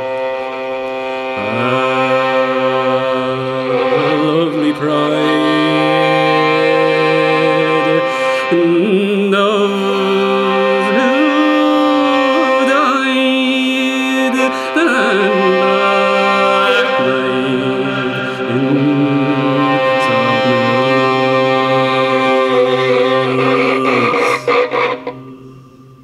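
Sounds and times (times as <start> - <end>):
fiddle playing slow melody: 0.0 - 26.0
held drone notes: 0.0 - 26.0.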